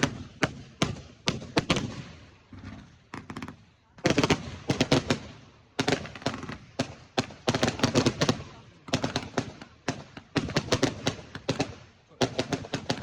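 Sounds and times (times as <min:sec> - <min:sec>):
fireworks cracking: 0:00.0 - 0:13.0.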